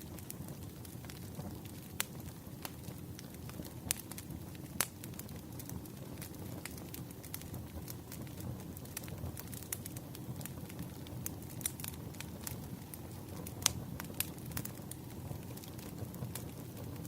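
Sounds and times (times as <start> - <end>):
firewood crackling and popping: 0.0 - 17.0
low rumble of flames: 0.0 - 17.0.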